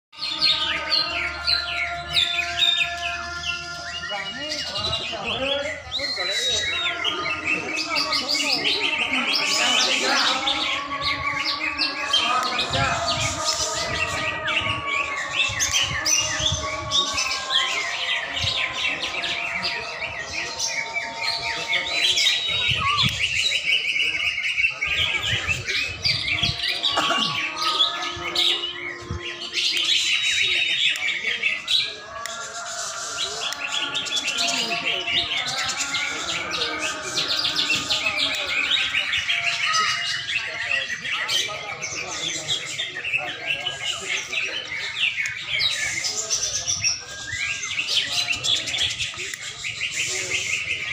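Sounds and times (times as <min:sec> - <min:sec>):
birds chirping and whistling: 0:00.1 - 0:50.9.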